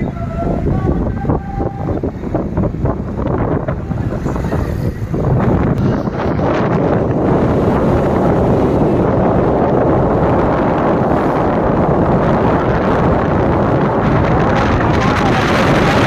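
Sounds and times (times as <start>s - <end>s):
motorcycle running: 0.0s - 16.0s
wind buffeting microphone: 0.0s - 16.0s.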